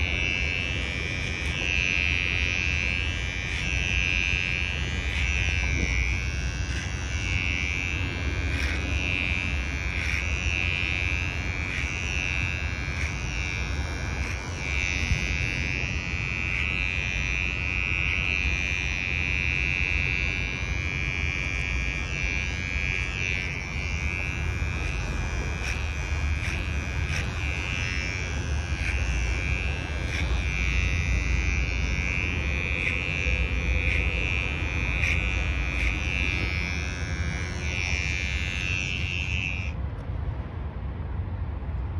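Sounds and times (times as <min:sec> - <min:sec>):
hair clipper whining: 0:00.0 - 0:39.8.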